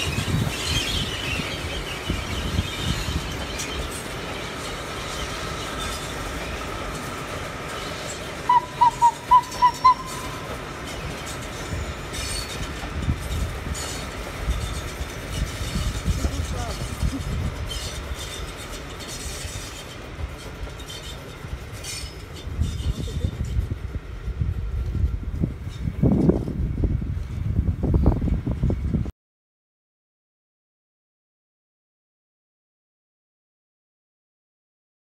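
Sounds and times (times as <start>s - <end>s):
train rumbling past: 0.0s - 29.1s.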